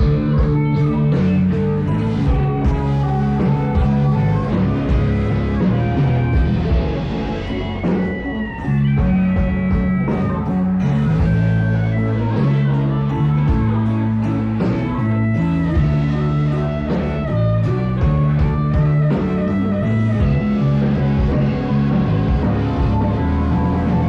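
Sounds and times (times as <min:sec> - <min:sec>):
bass line held notes: 0:00.0 - 0:24.0
rock music: 0:00.0 - 0:24.0.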